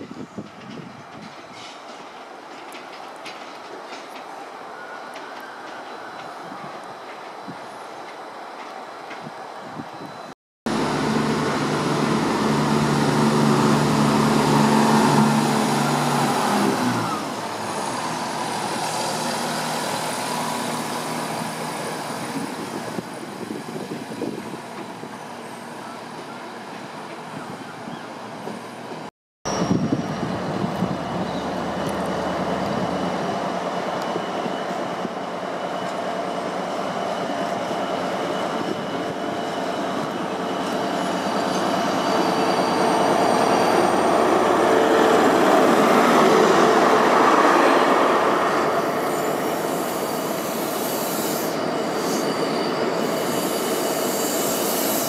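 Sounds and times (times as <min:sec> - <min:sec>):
diesel train engines running: 0:10.7 - 0:55.0.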